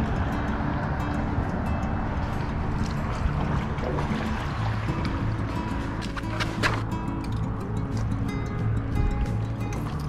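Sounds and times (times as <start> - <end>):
background music with low notes: 0.0 - 10.0.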